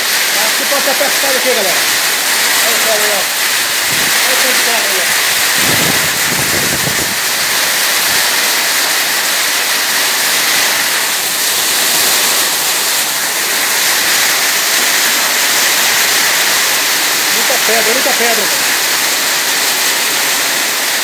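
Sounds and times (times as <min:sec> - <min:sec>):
heavy rain on concrete: 0:00.0 - 0:21.0.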